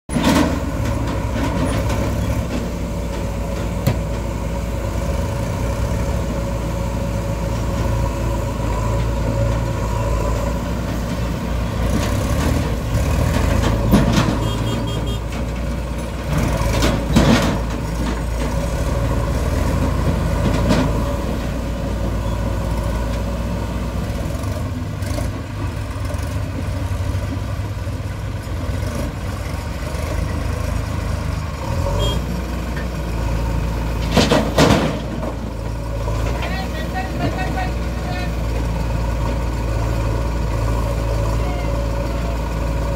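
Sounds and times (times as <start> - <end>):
diesel engines running: 0.1 - 42.9.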